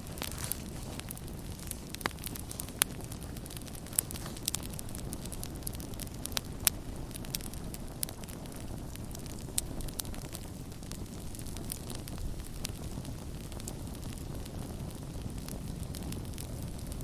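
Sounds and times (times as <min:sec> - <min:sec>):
campfire crackling and popping: 0:00.0 - 0:17.0
fire low rumble: 0:00.0 - 0:17.0.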